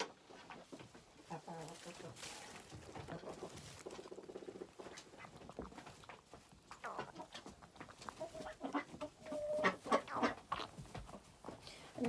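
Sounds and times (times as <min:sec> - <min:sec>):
scuffling and rustling: 0:00.3 - 0:12.0.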